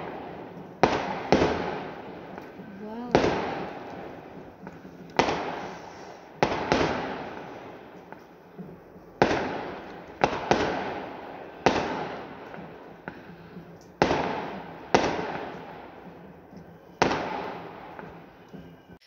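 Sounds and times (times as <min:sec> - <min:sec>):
fireworks bangs echoing: 0:00.0 - 0:19.0.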